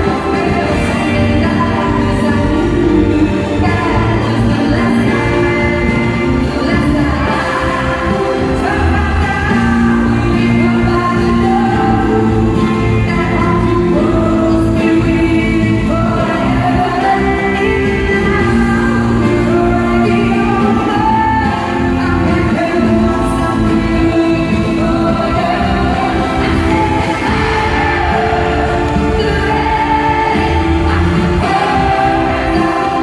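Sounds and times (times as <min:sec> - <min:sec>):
band accompaniment: 0:00.0 - 0:33.0
woman singing pop ballad: 0:00.0 - 0:33.0.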